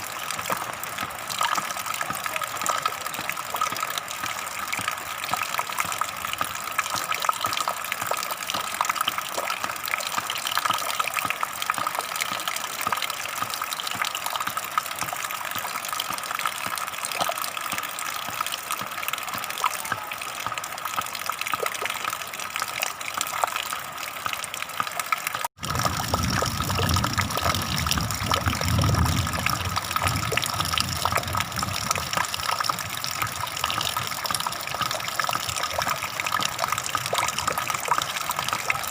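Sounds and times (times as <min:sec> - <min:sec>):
gushing water: 0:00.0 - 0:38.9.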